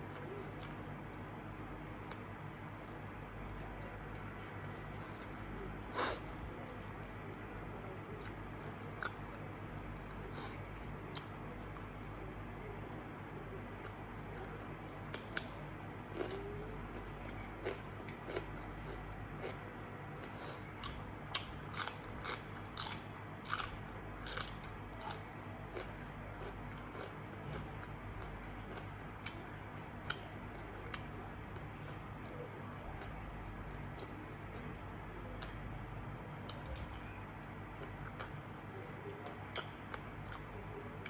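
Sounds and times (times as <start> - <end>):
person chewing crunchy food: 2.0 - 12.2, 13.8 - 34.6, 36.5 - 41.0.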